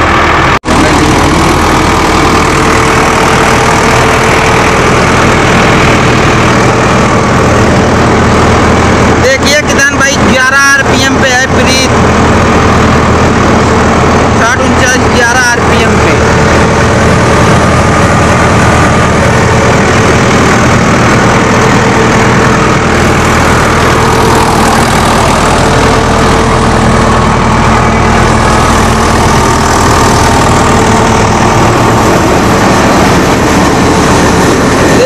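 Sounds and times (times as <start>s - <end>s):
mill belts and pulleys whirring: 0.0s - 35.0s
tractor diesel engine running: 0.0s - 35.0s.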